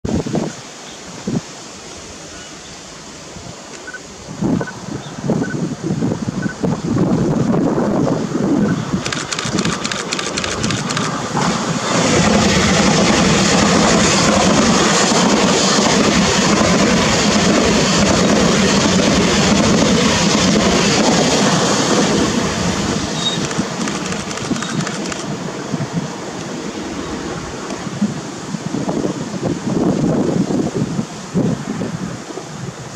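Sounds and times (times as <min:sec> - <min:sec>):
train passing at speed: 0:01.0 - 0:32.9.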